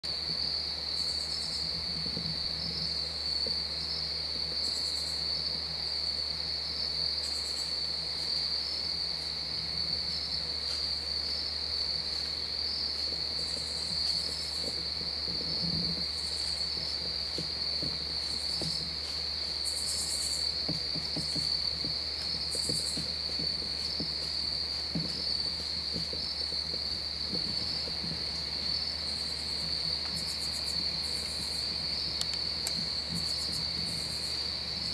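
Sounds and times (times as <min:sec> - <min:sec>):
crickets trilling: 0:00.0 - 0:34.9
high insect calls: 0:00.0 - 0:34.9.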